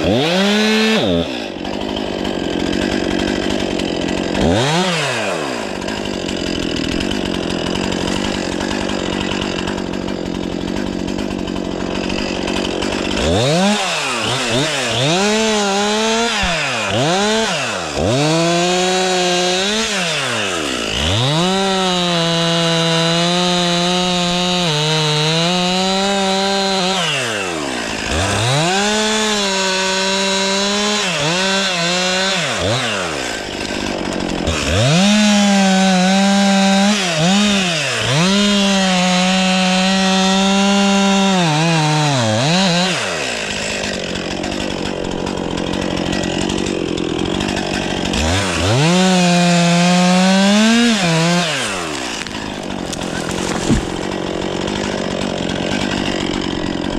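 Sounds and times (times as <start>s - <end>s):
chainsaw running and revving: 0.0s - 56.9s.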